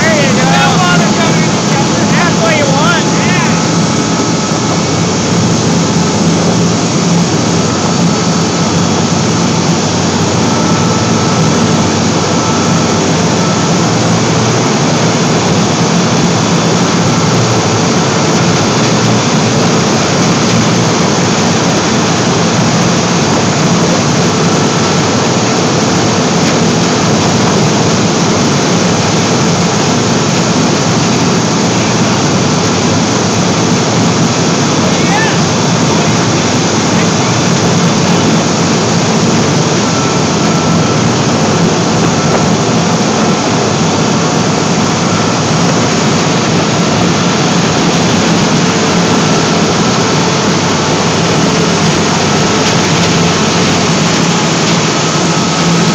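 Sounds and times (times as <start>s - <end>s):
boat engine running at high power: 0.0s - 55.9s
water churning: 0.0s - 55.9s.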